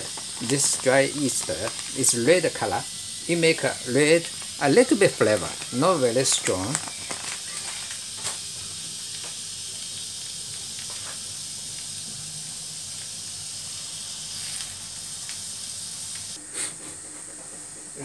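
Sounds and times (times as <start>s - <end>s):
gas burner hissing: 0.0s - 18.0s.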